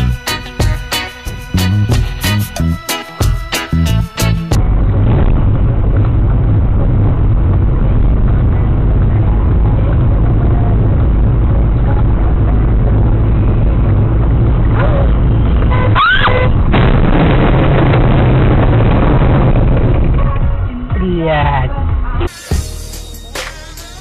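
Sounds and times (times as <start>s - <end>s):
car engine and road rumble: 3.5s - 24.0s.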